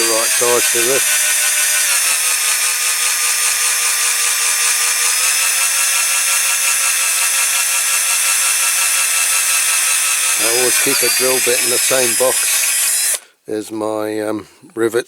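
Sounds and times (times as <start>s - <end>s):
small electric drill whining: 0.0s - 13.3s.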